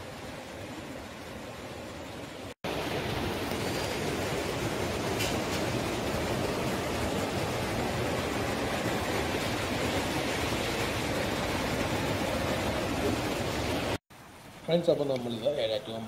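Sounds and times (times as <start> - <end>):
river rushing: 0.0 - 14.8.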